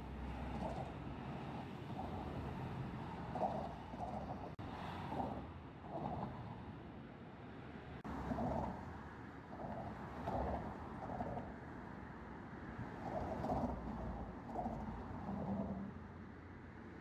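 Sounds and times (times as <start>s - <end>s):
traffic on a bridge: 0.0s - 17.0s.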